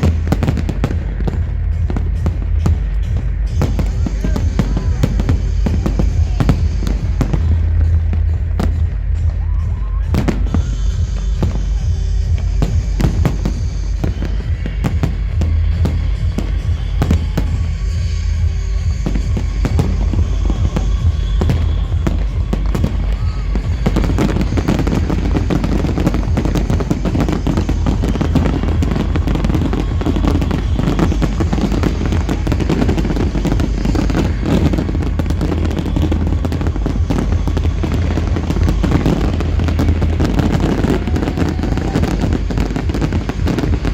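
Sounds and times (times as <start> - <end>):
fireworks bangs and crackles: 0.0 - 43.9
loud music with heavy bass: 0.0 - 43.9.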